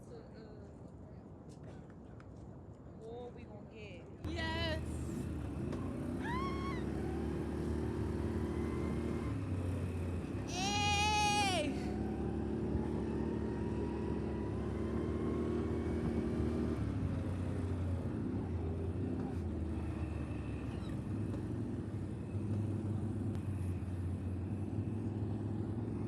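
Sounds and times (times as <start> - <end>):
atv engines running: 4.3 - 26.0.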